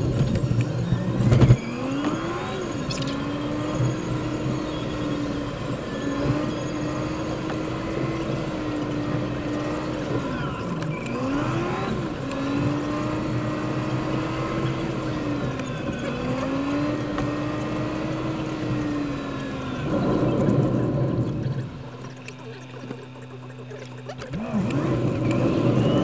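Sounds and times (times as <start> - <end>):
car engine from inside: 0.0 - 26.0
road noise: 0.0 - 26.0.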